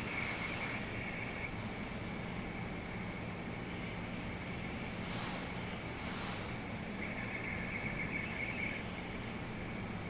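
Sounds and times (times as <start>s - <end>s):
background hum and hiss: 0.0s - 10.0s
constant tones: 0.0s - 10.0s.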